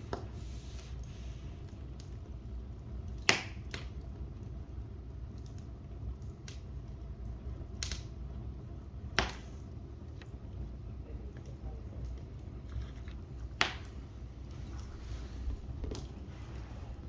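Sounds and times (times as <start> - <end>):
fire crackling and popping: 0.0 - 17.0
fire low rumble: 0.0 - 17.0.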